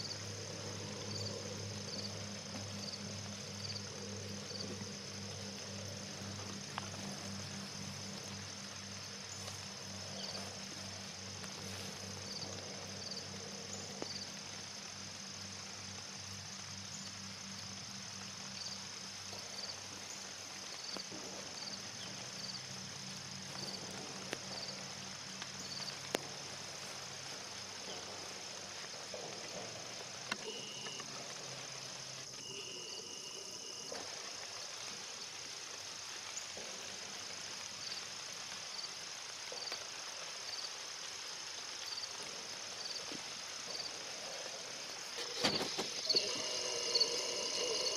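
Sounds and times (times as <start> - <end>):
faint ticks: 0.0 - 32.7, 33.6 - 47.9
insects trilling: 0.0 - 47.9.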